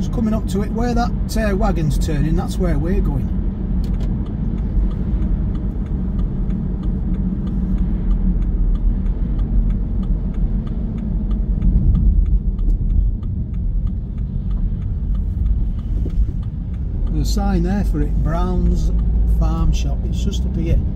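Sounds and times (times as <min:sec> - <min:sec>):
engine and tyre rumble: 0:00.0 - 0:20.9
faint rapid ticking: 0:00.0 - 0:20.9.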